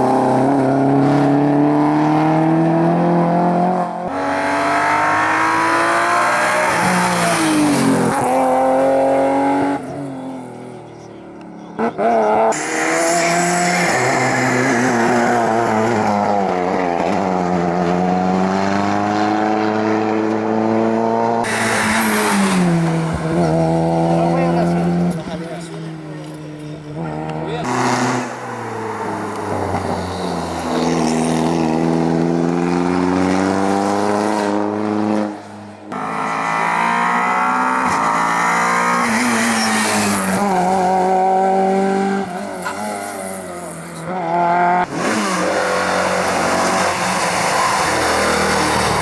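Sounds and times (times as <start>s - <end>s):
rally car engines revving: 0.0s - 49.0s.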